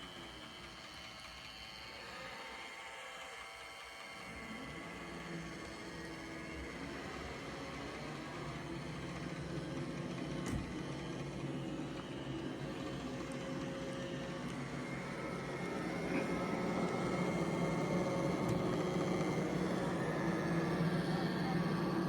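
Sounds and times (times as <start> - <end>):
robot vacuum humming on carpet: 0.0 - 22.0.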